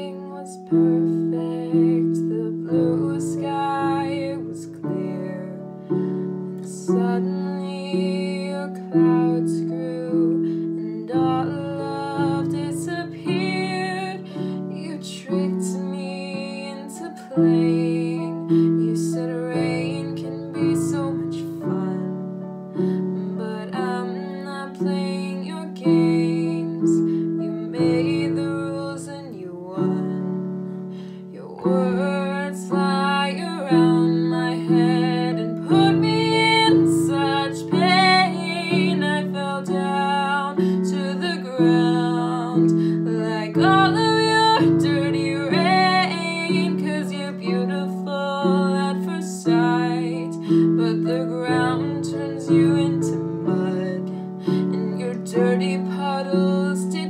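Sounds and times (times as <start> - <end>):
woman singing: 0.0 - 57.0.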